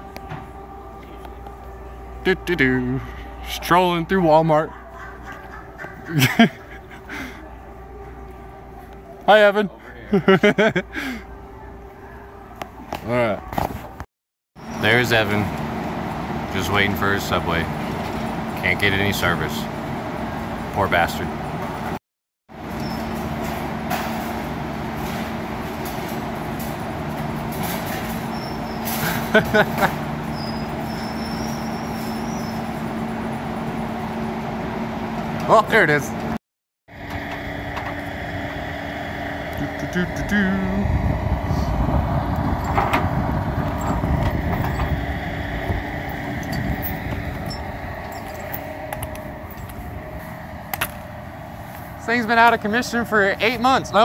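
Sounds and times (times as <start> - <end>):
low machine hum: 0.0 - 14.0, 14.6 - 22.0, 22.6 - 54.0
truck engine rumbling: 0.0 - 54.0.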